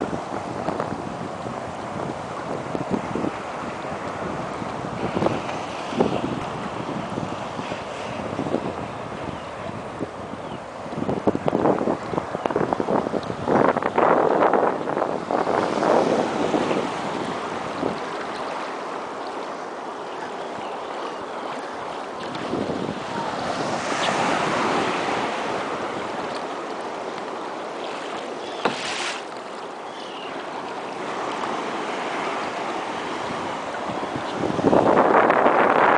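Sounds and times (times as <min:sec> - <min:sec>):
wind buffeting microphone: 0:00.0 - 0:29.1, 0:29.7 - 0:35.9
sea waves washing: 0:00.0 - 0:35.9.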